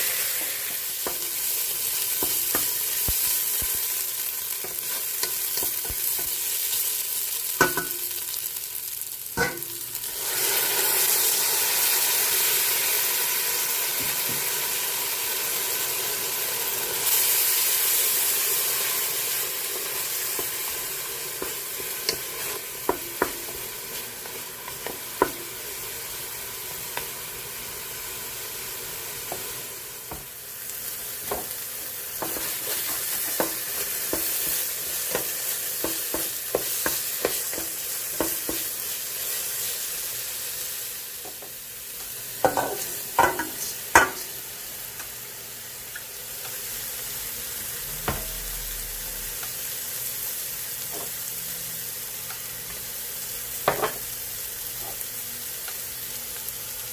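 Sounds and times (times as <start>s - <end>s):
food sizzling in a pan: 0.0s - 56.9s.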